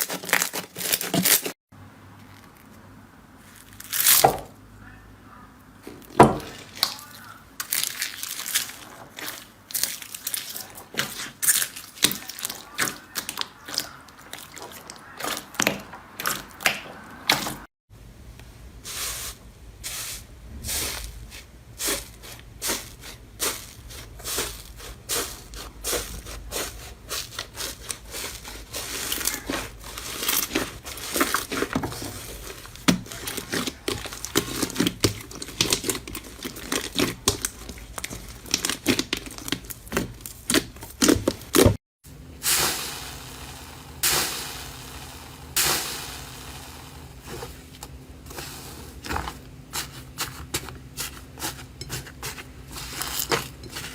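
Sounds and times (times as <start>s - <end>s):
slime crackling and squishing: 0.0s - 1.6s, 6.1s - 17.6s, 19.9s - 41.8s, 42.4s - 53.9s.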